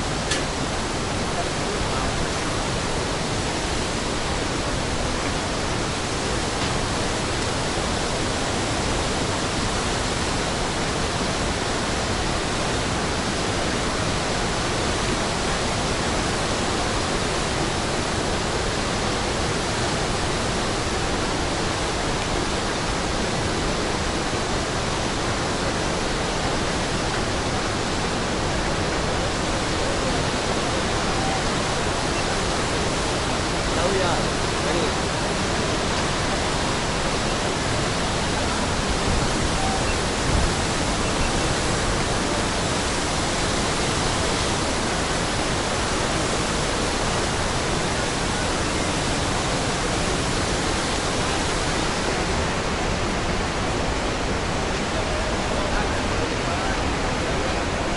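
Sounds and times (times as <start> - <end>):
waterfall roaring: 0.0 - 57.9.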